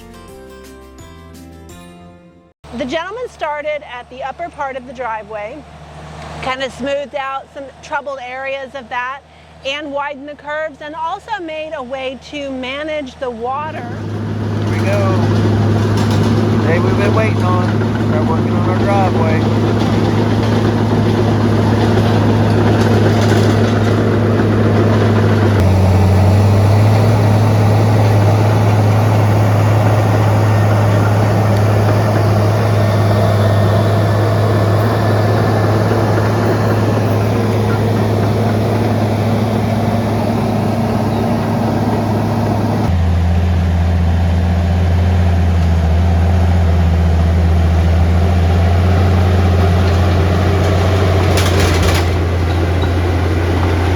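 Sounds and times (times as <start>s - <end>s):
bulldozer diesel engine running: 2.6s - 53.9s.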